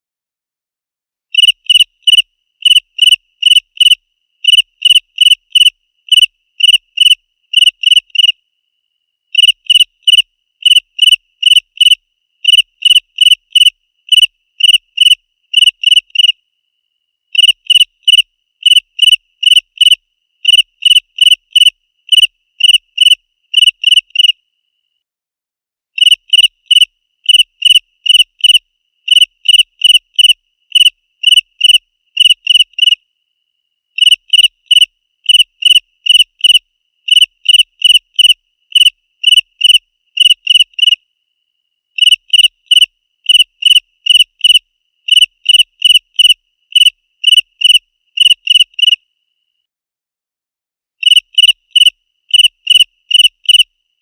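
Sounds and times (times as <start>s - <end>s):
cricket chirping: 1.3s - 25.0s, 26.0s - 49.7s, 51.0s - 54.0s.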